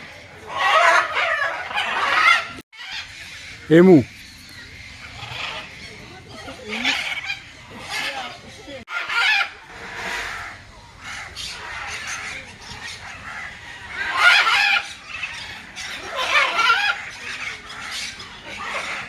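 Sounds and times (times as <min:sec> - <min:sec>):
birds squawking: 0:00.4 - 0:19.0.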